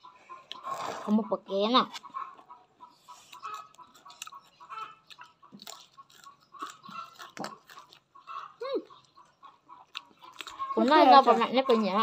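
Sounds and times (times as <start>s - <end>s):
chewing leafy greens: 0.0s - 12.0s.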